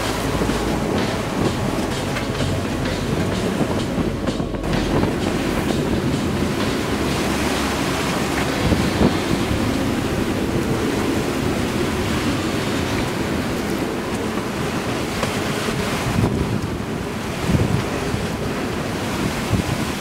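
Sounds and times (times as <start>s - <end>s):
rough sea rushing: 0.0s - 20.0s
wind buffeting microphone: 0.0s - 20.0s.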